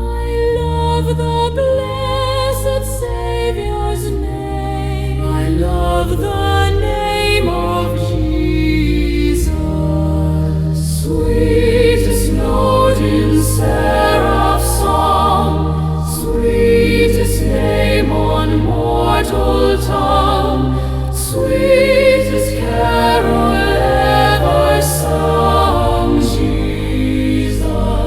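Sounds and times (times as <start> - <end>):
choir singing a hymn: 0.0 - 28.0
sustained low accompaniment: 0.0 - 28.0.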